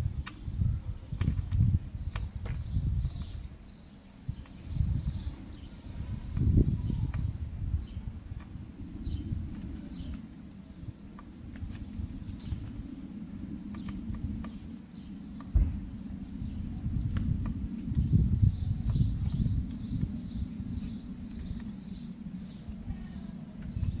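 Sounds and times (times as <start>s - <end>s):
birds chirping faintly: 0.0s - 24.0s
low rumble: 0.0s - 24.0s.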